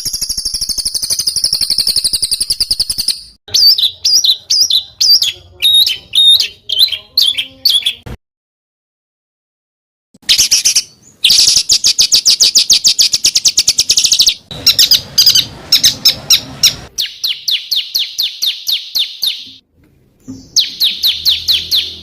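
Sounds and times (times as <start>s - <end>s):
songbird singing fast harsh trills: 0.0s - 8.1s, 10.2s - 19.6s, 20.3s - 22.0s.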